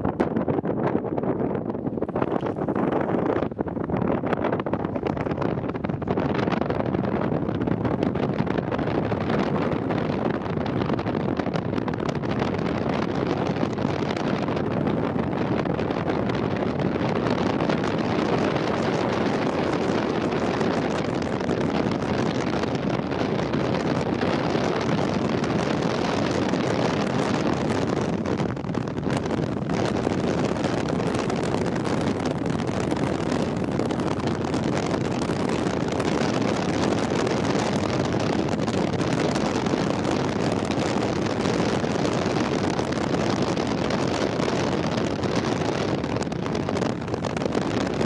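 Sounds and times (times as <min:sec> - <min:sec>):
car interior road and wind noise: 0:00.0 - 0:48.0.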